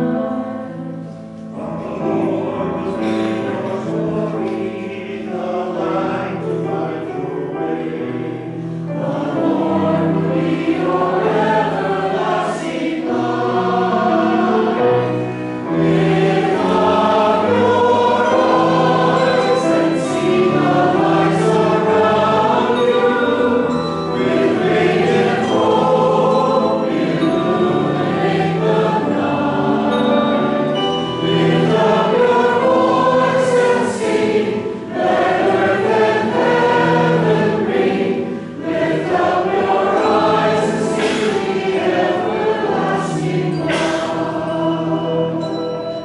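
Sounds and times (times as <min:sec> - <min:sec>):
choir singing a hymn: 0:00.0 - 0:46.0
piano accompaniment: 0:00.0 - 0:46.0.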